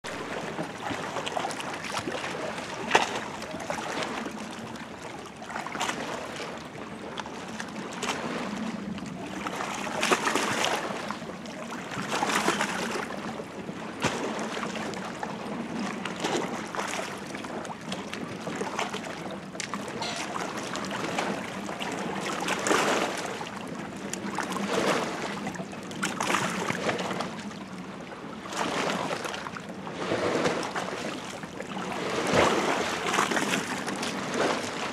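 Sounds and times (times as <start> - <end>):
water lapping: 0.0 - 34.9.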